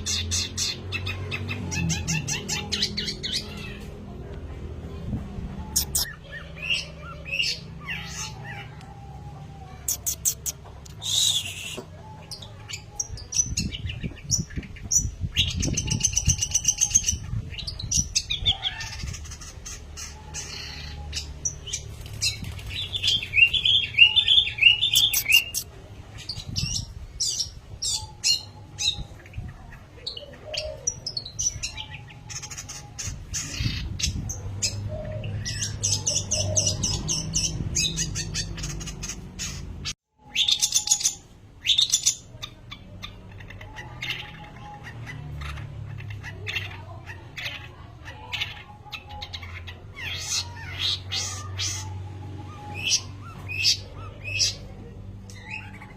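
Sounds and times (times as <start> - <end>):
bird singing chirps and squawks: 0.0 - 4.2, 4.8 - 55.9.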